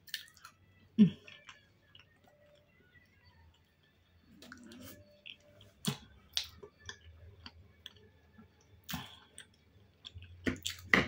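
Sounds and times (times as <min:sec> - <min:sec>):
chewing dumplings: 0:00.0 - 0:11.0.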